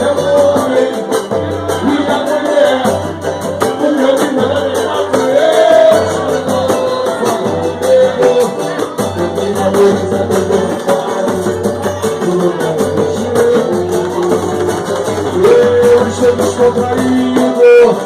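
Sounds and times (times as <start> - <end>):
person singing: 0.0 - 18.0
samba percussion beat: 0.0 - 18.0.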